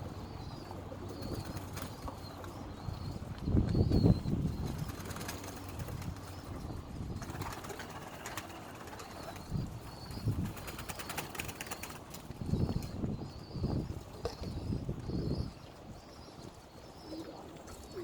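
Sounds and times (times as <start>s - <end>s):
pigeons cooing: 0.0s - 13.6s, 14.2s - 18.0s.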